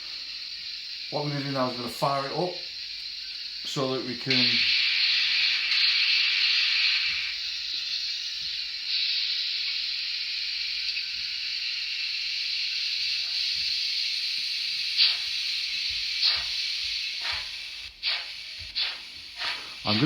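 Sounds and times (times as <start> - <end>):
steam exhaust chuffs: 0.0 - 10.6, 12.1 - 20.0
steam hiss from small speaker: 0.0 - 20.0.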